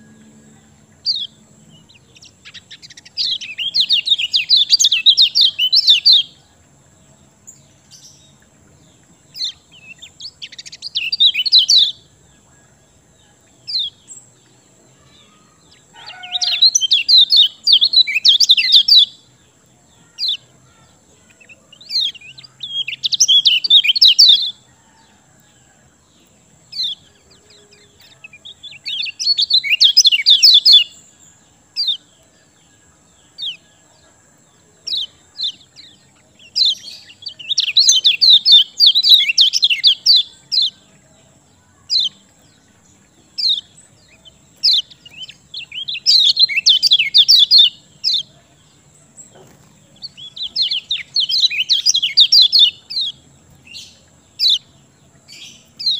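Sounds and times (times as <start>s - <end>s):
bird chirps: 0.0s - 55.9s
songbird chattering song: 0.0s - 55.9s.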